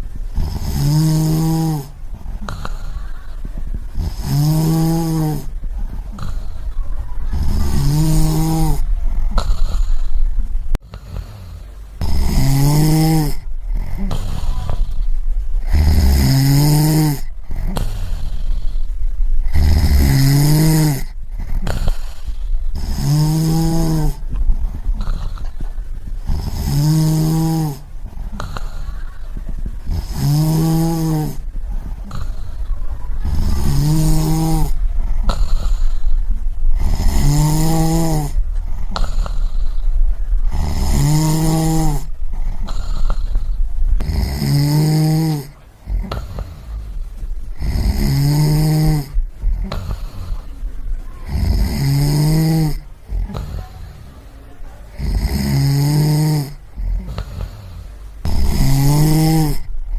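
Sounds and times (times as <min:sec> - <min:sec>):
person snoring: 0:00.0 - 0:54.2, 0:54.9 - 0:59.9
breathy hiss: 0:00.0 - 0:59.9.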